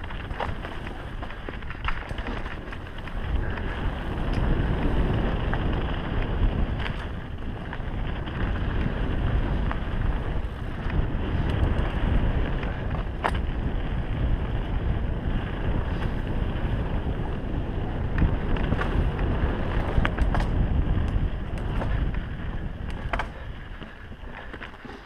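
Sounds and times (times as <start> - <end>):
mountain bike rumbling and rattling: 0.0 - 25.0
wind noise on microphone: 0.0 - 25.0.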